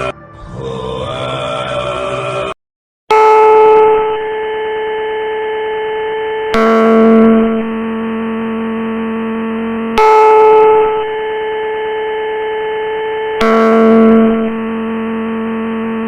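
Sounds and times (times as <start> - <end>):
emergency alert alarm tone: 3.1 - 16.0.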